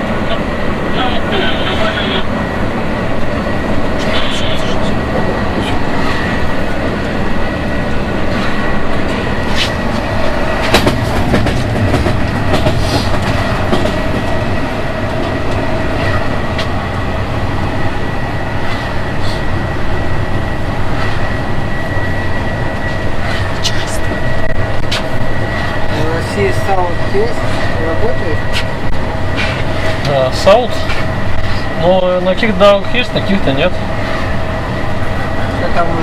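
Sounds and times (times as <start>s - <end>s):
electric locomotive cab rumble: 0.0s - 36.0s.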